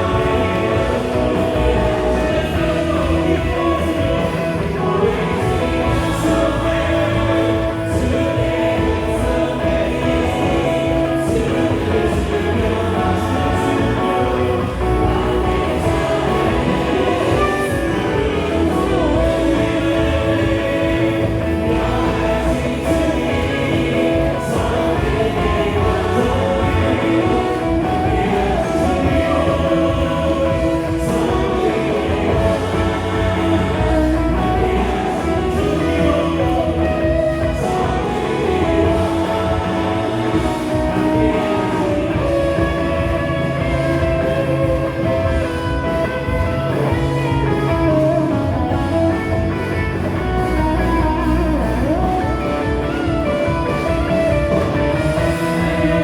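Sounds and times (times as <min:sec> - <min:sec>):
live band playing: 0:00.0 - 0:56.0
people singing: 0:00.0 - 0:56.0.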